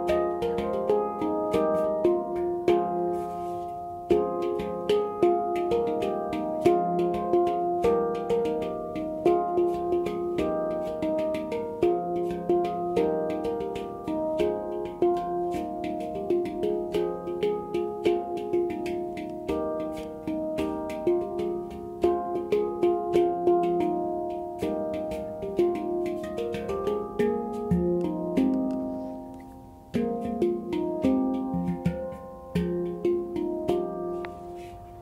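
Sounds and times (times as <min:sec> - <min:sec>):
handpan melody: 0:00.0 - 0:35.0.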